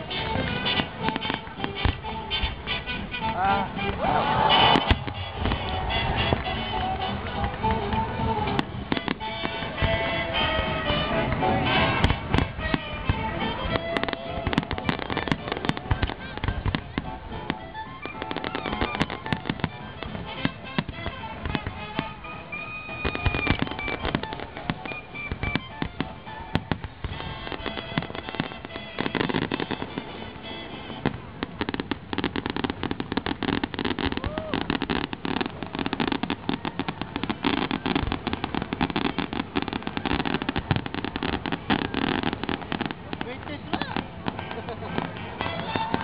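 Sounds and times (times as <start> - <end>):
fireworks bursting with bangs: 0.0 - 46.0
fireworks crackling: 0.0 - 46.0.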